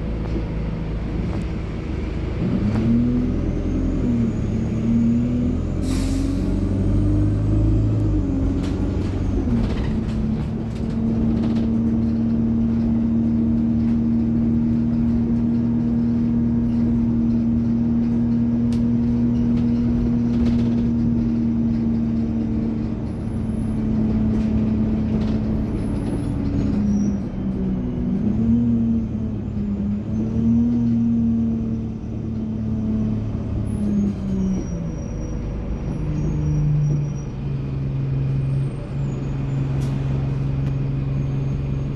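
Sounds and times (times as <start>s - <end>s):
bus gearbox and turbo whine: 0.0s - 41.9s.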